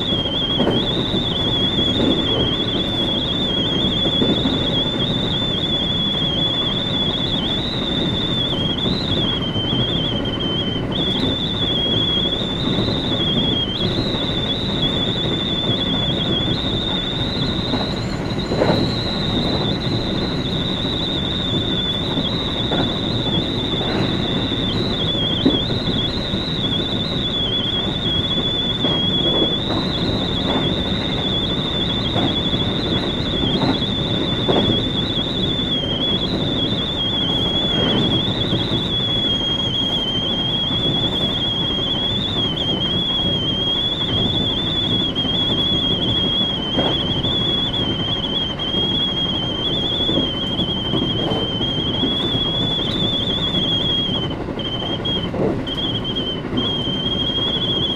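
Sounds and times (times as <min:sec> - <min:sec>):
high wavering whine: 0:00.0 - 0:57.9
train wheels rumbling: 0:00.0 - 0:57.9.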